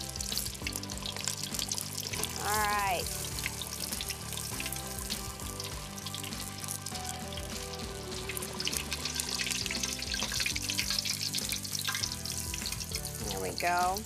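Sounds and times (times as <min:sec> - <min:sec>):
background music: 0:00.0 - 0:14.0
food deep-frying in oil: 0:00.0 - 0:14.0.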